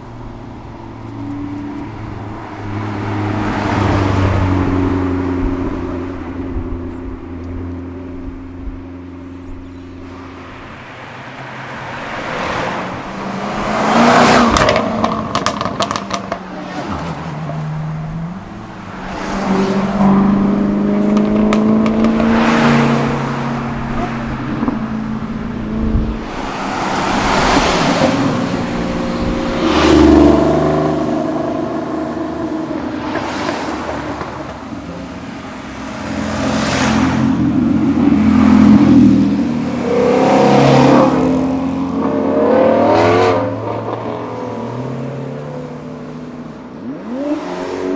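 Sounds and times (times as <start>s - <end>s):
cars accelerating past: 0.0s - 47.9s.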